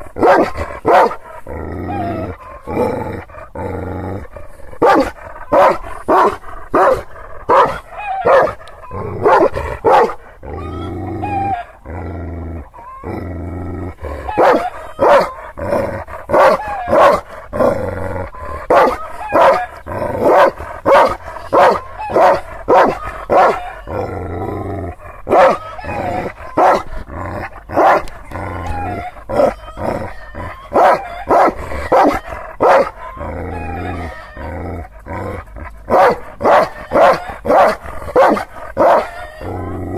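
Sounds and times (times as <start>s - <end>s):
large dog barking deeply: 0.0s - 12.2s, 13.9s - 39.8s.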